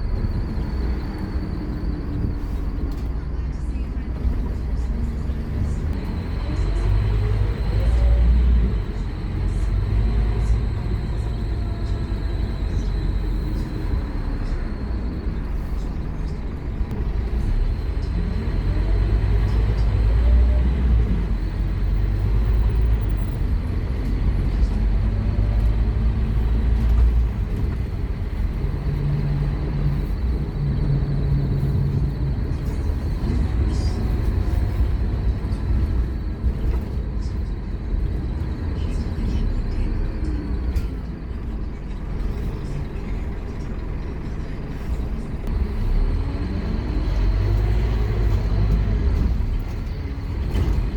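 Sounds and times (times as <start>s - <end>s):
bus diesel engine accelerating: 0.0s - 50.9s.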